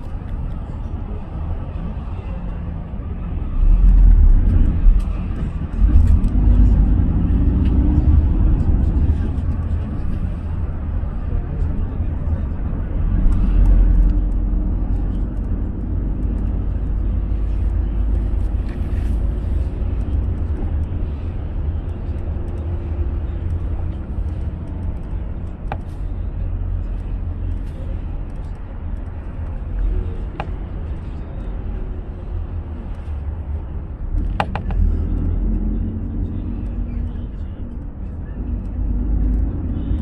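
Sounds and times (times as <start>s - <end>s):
road and engine rumble: 0.0s - 40.0s.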